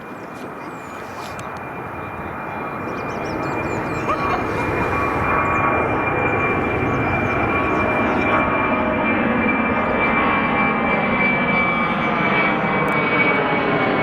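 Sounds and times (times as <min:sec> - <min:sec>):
high-pitched engine whine: 0:00.0 - 0:14.0
jet engines rumbling: 0:00.0 - 0:14.0.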